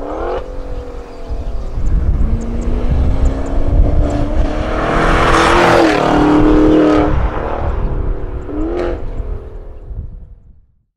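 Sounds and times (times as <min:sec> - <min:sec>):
car engine accelerating past: 0:00.0 - 0:09.2.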